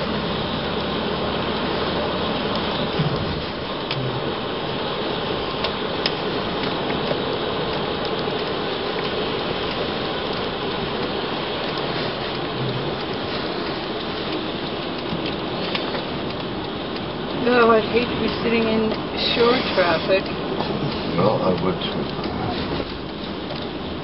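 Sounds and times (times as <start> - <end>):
rain hissing on car roof: 0.0 - 24.0
raindrop taps: 0.0 - 24.0.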